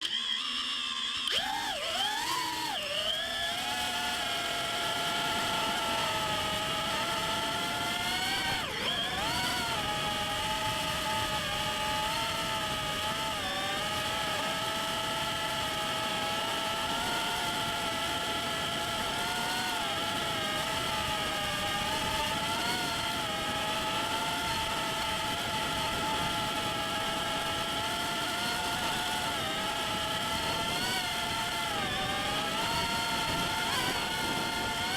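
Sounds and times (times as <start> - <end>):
drone motors whining: 0.0 - 34.9.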